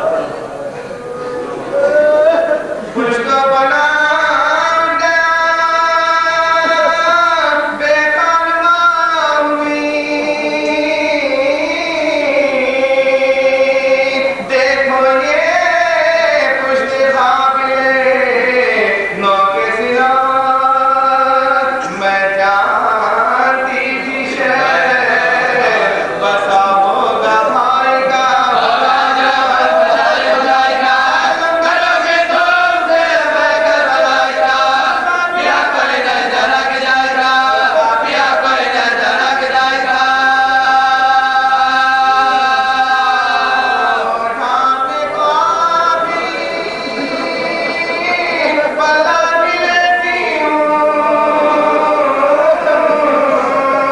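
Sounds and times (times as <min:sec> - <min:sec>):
men chanting: 0:00.0 - 0:53.9.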